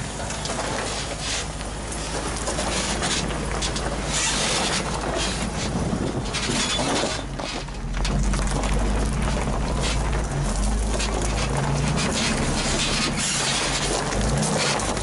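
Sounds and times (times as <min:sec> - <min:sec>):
truck engine at low revs: 0:00.0 - 0:15.0
tyres crunching on gravel: 0:00.0 - 0:15.0.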